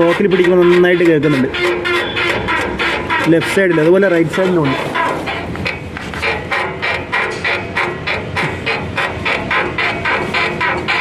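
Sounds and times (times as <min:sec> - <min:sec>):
shock absorber creaking: 0:00.0 - 0:11.0.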